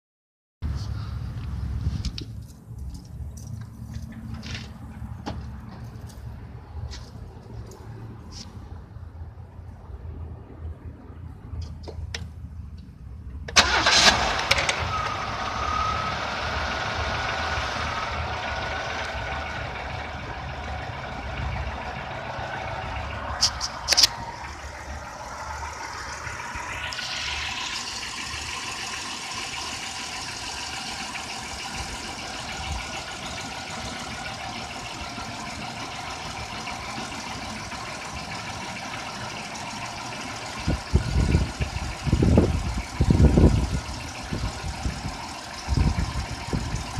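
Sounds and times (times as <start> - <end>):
car engine starting and idling: 0.6 - 46.9.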